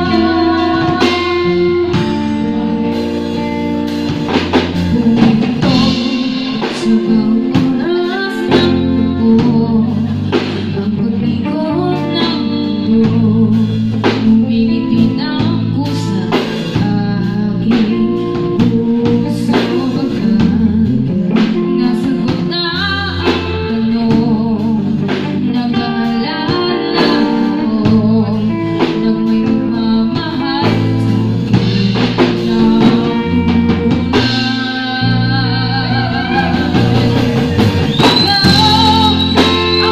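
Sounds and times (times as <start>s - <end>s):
live band playing: 0.0s - 39.9s
woman singing into microphone: 0.0s - 39.9s.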